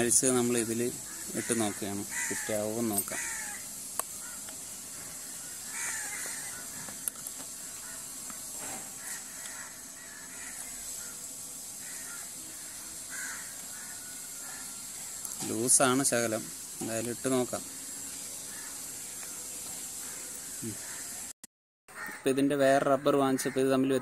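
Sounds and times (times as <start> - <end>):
steady hiss: 0.0 - 21.4
crows cawing: 0.4 - 15.5, 18.4 - 21.3, 21.9 - 23.9.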